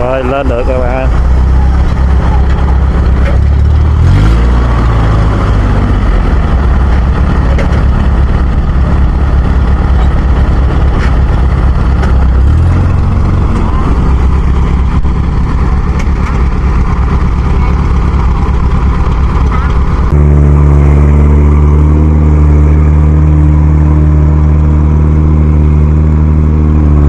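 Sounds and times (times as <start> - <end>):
heavy machine engine running: 0.0 - 27.0.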